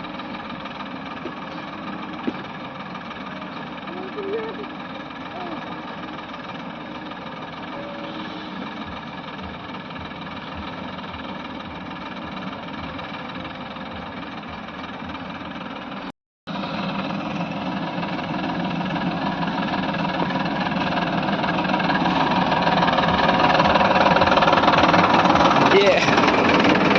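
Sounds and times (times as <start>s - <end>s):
heavy diesel engine running: 0.0s - 26.9s.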